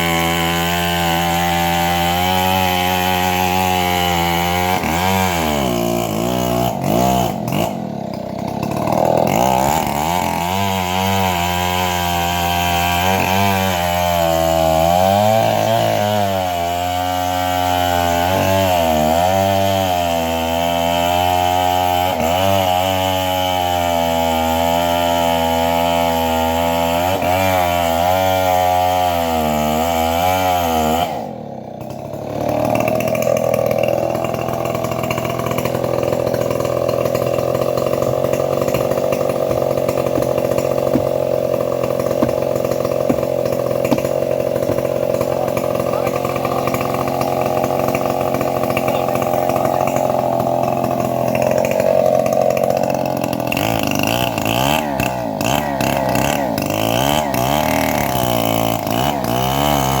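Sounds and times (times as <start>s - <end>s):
chainsaw running: 0.0s - 60.0s.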